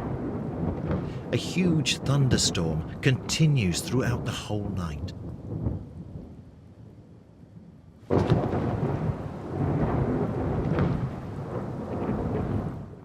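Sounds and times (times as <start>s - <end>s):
rain falling: 0.0s - 6.0s, 8.1s - 13.0s
thunder rumbling: 0.0s - 6.3s, 8.1s - 13.0s.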